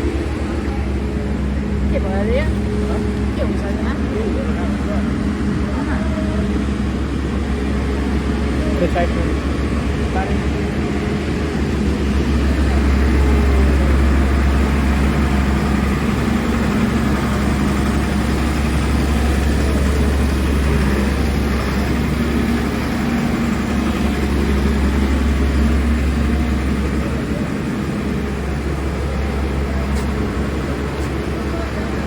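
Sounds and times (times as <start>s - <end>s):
heavy machinery engine rumbling: 0.0s - 32.0s.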